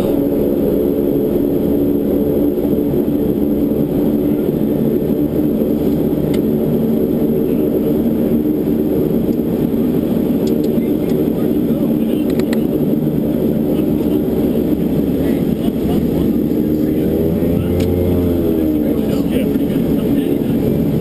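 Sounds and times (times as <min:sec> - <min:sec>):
turboprop engines droning: 0:00.0 - 0:21.0.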